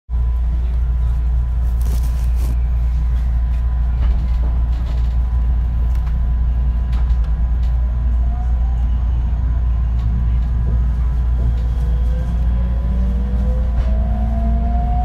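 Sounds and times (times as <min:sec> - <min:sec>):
train running rumble: 0:00.1 - 0:15.0.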